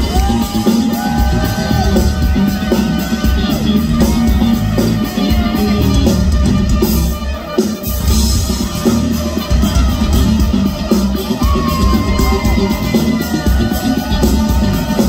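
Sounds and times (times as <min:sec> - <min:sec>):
band bass and drums: 0:00.0 - 0:15.0.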